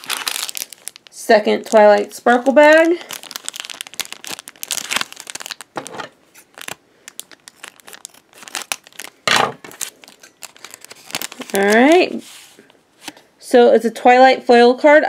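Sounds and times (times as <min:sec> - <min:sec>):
foil packet crinkling: 0:00.0 - 0:13.2.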